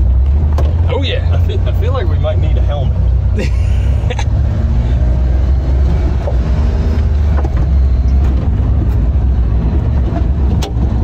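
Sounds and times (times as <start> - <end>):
small truck engine rumbling: 0.0 - 11.0.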